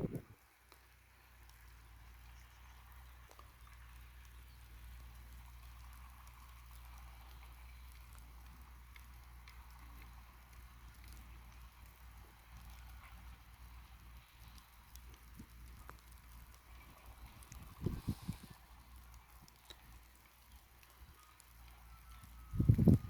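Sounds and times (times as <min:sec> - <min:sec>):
light crackling ticks: 0:00.0 - 0:23.0
tractor engine drone: 0:00.0 - 0:23.0.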